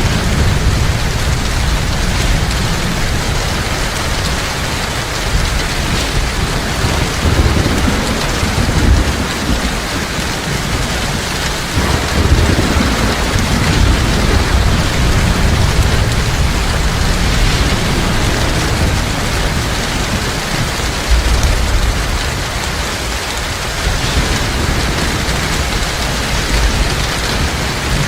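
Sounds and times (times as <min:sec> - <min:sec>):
heavy rain falling: 0:00.0 - 0:28.0
low thunder rumbling: 0:00.0 - 0:28.0.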